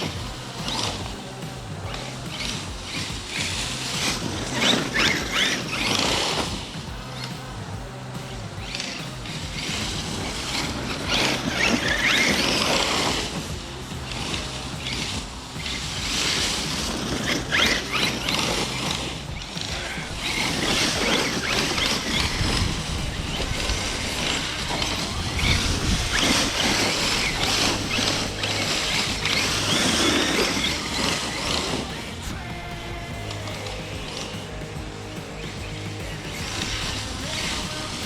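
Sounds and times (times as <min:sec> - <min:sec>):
electric motor whining: 0:00.0 - 0:38.0
tyres and drivetrain rumbling: 0:00.0 - 0:38.0.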